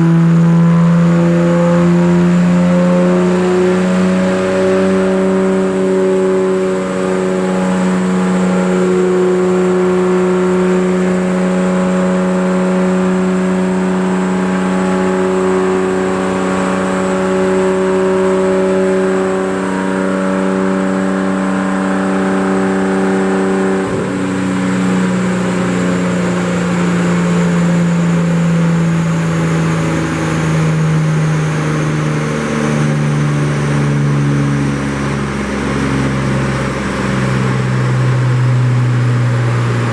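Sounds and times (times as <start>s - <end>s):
car engine running hard on dyno: 0.0s - 39.9s.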